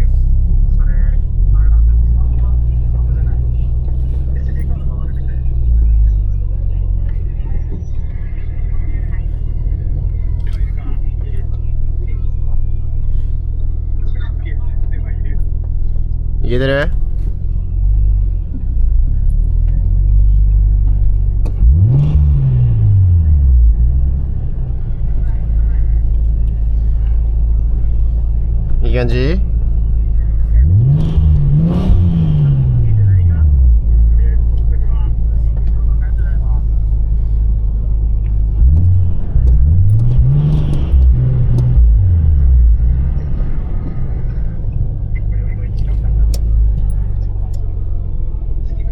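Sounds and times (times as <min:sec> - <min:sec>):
sports car engine droning: 0:00.0 - 0:48.9.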